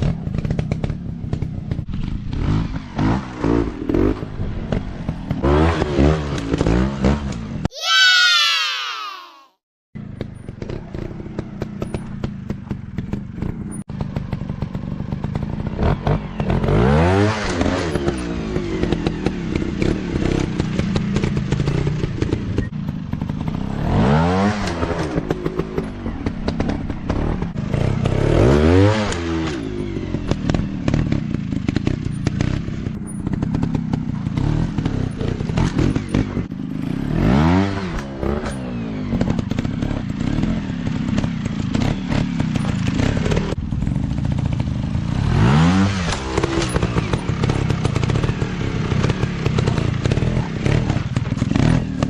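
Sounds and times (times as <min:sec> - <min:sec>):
dirt bike engines running: 0:00.0 - 0:08.2, 0:10.0 - 0:52.0
dirt bike engine revving: 0:01.9 - 0:09.5, 0:10.6 - 0:52.0.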